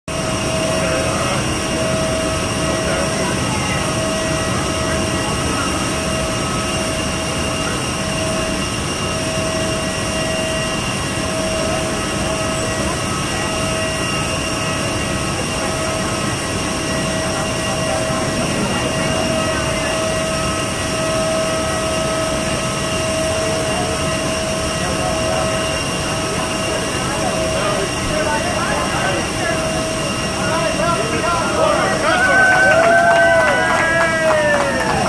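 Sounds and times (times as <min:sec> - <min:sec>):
jet airliner whine and roar: 0:00.1 - 0:35.0.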